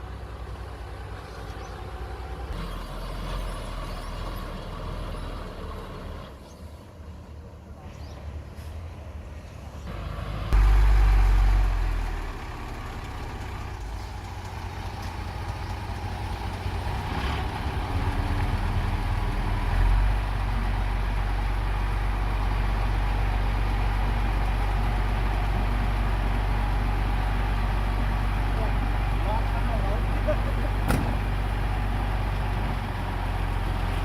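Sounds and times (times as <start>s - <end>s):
bulldozer diesel engine droning: 0.0s - 34.0s.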